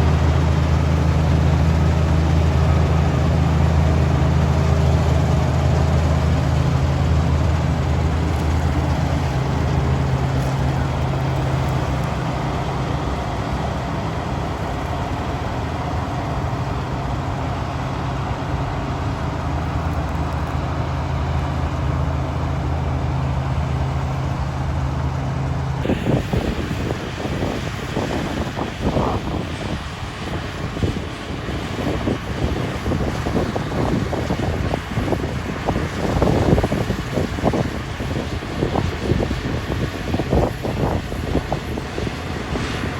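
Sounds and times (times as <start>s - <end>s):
combine harvester engine hum: 0.0s - 42.9s.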